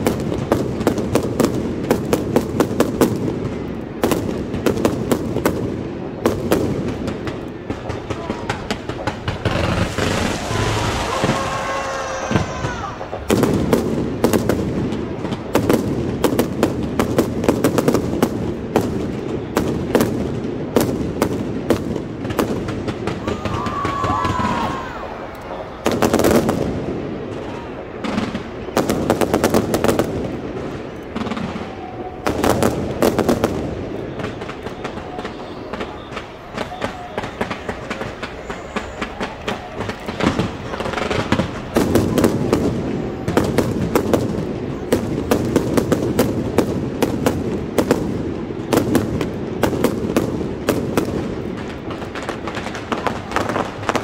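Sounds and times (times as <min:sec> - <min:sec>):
fireworks cracking and banging: 0:00.0 - 0:54.0
murmur of crowd: 0:00.0 - 0:54.0.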